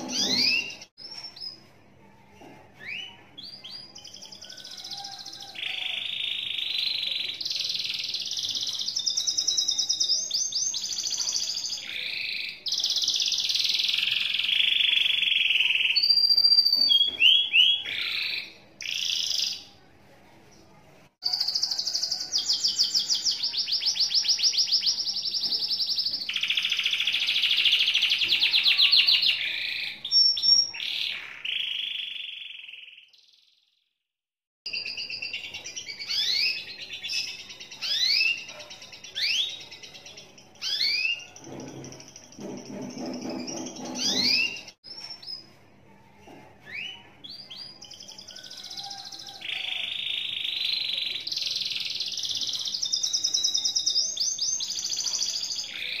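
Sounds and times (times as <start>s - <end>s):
canary singing rolling trills: 0.0s - 1.7s, 2.8s - 19.8s, 21.2s - 33.6s, 34.7s - 45.8s, 46.6s - 56.0s.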